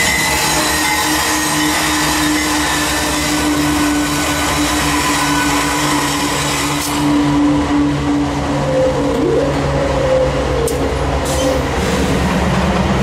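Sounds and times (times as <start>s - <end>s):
locomotive engines droning: 0.0s - 13.0s.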